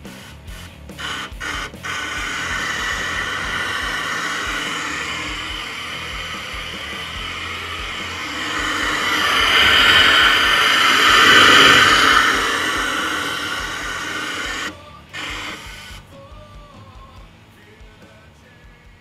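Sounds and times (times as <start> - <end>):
hiss of air and water spray: 0.0 - 15.8.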